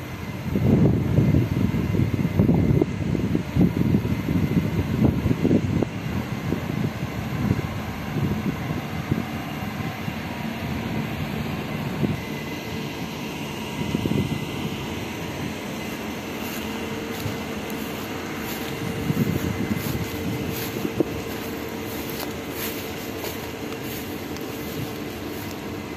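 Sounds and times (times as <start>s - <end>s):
faint steady hum: 0.0s - 25.9s
low outdoor rumble: 0.0s - 25.9s.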